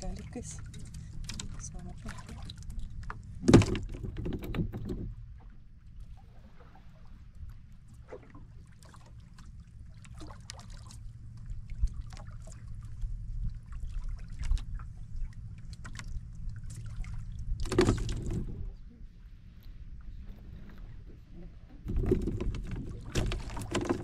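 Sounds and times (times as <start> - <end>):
steady low rumble: 0.0 - 23.7
water lapping against boat: 0.0 - 24.0.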